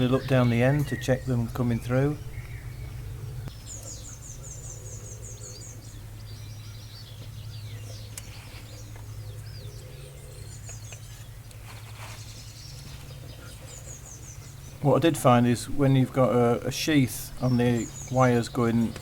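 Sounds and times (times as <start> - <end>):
low steady hum: 0.0 - 19.0
small birds singing: 0.0 - 19.0.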